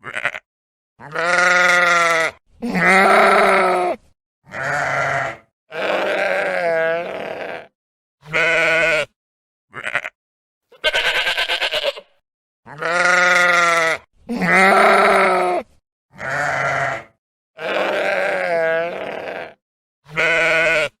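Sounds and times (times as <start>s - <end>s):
sheep bleating: 0.0s - 21.0s.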